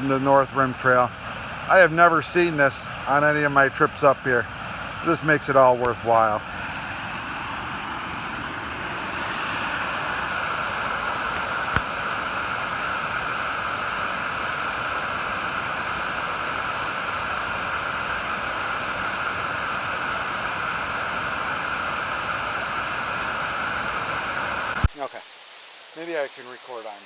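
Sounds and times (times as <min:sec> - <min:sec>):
fast-running water rushing: 0:00.0 - 0:27.0.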